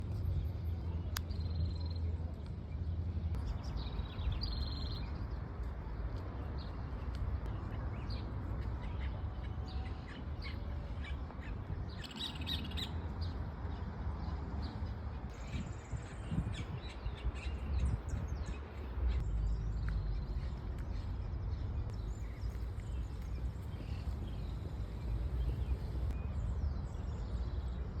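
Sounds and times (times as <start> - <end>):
small birds chirping: 0.1 - 28.0.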